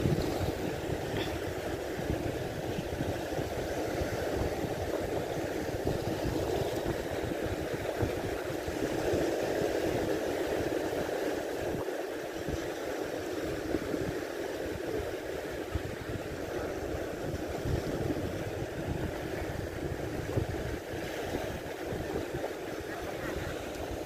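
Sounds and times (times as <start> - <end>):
small waves washing on rocks: 0.0 - 24.0
wind buffeting microphone: 0.0 - 24.0.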